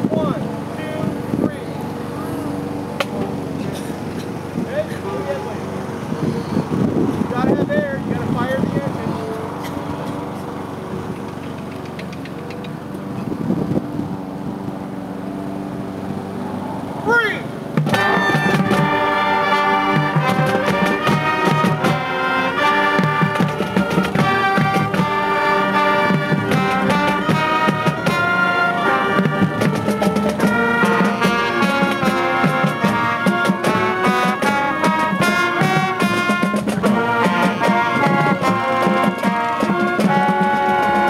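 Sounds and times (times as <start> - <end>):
marching band playing: 0.0 - 11.4, 17.0 - 41.0.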